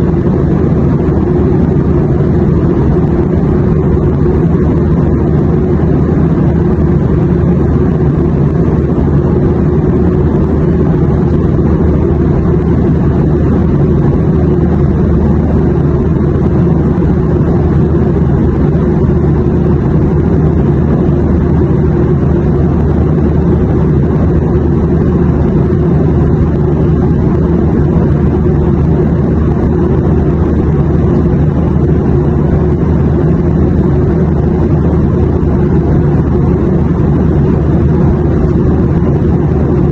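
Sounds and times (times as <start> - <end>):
airplane drone: 0.0 - 39.9.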